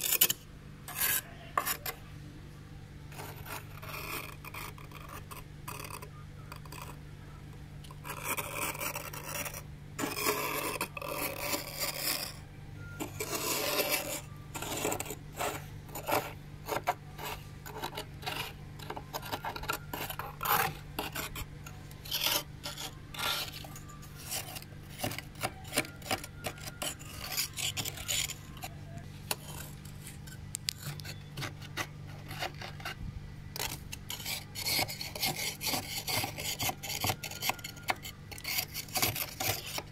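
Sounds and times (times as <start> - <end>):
spoon scraping frost: 0.0 - 2.0, 3.1 - 7.0, 7.8 - 12.4, 13.0 - 39.9.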